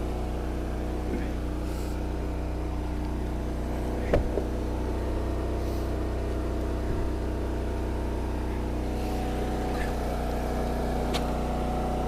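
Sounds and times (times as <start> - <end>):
log splitter engine running: 0.0 - 12.0.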